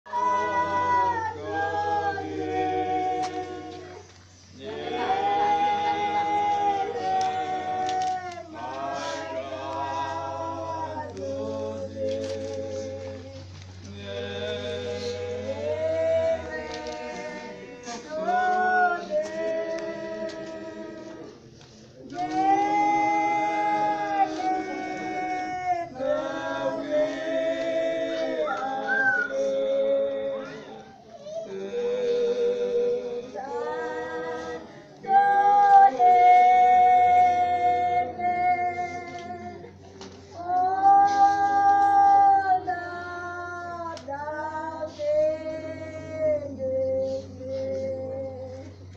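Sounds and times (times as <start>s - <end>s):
group singing unaccompanied: 0.0s - 48.9s.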